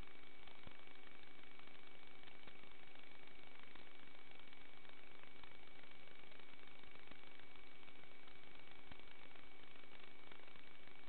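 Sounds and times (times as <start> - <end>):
faint high whine: 0.0 - 11.0
faint ticks: 0.0 - 11.0
static hiss: 0.0 - 11.0.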